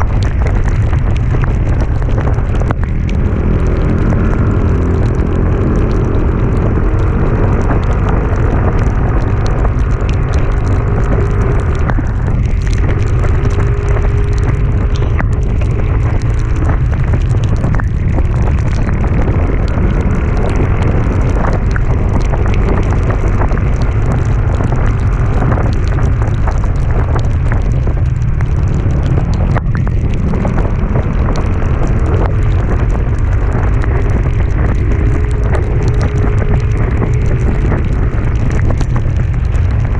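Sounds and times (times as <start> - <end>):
vehicle engine hum: 0.0 - 39.9
wind buffeting microphone: 0.0 - 39.9.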